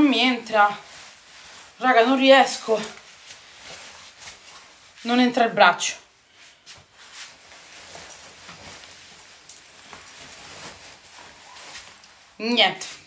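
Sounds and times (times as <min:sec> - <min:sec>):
jacket fabric rustling: 0:00.0 - 0:13.0.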